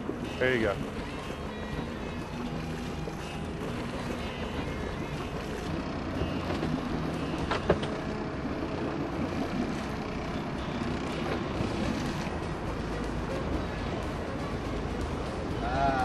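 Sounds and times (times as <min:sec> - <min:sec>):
boat engine running: 0:00.0 - 0:16.0
water noise: 0:00.0 - 0:16.0
wind: 0:00.0 - 0:16.0.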